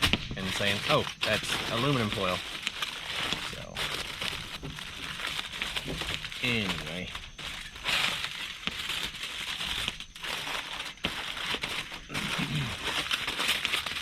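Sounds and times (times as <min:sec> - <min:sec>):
aluminum foil crinkling: 0:00.0 - 0:14.0.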